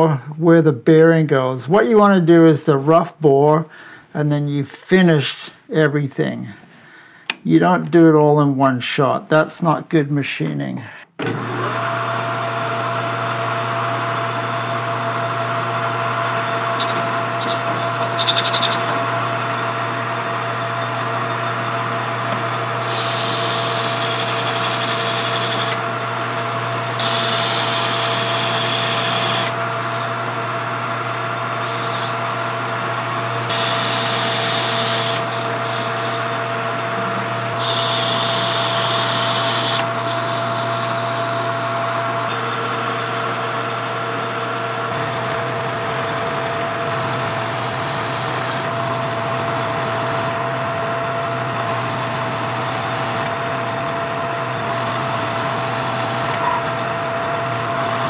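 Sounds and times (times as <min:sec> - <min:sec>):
metal lathe running: 0:11.3 - 0:58.0.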